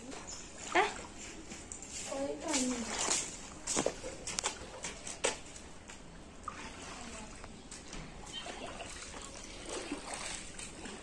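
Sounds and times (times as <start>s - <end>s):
water trickling and lapping: 0.0s - 11.0s.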